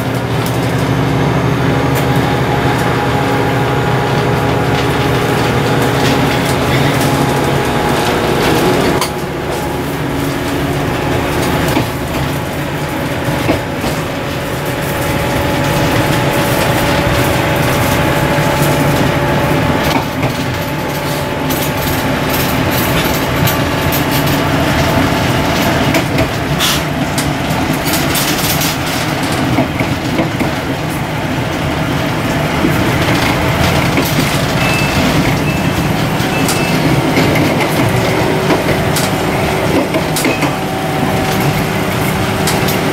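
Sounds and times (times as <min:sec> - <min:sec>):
diesel train engine running: 0:00.0 - 0:42.9.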